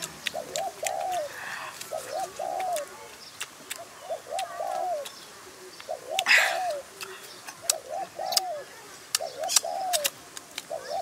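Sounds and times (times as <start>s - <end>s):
dove cooing: 0.0s - 3.1s, 3.8s - 11.0s
mouth clicks from chewing: 0.0s - 5.2s, 5.8s - 8.5s, 9.1s - 10.7s.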